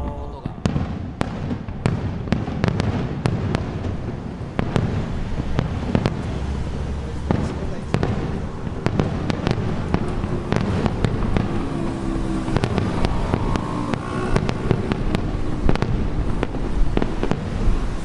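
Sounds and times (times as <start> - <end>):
low echoing rumble: 0.0 - 17.9
fireworks cracking: 0.0 - 18.0.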